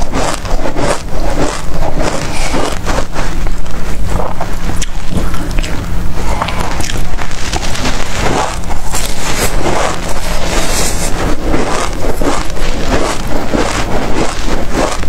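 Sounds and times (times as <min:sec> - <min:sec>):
crunching chewing seeds: 0:00.0 - 0:15.0
low steady hum: 0:00.0 - 0:15.0.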